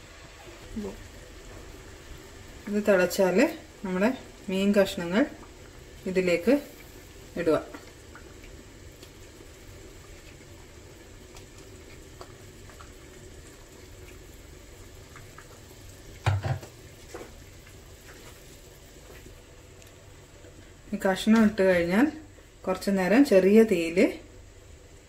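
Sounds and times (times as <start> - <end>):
curry bubbling in pot: 0.0 - 23.4.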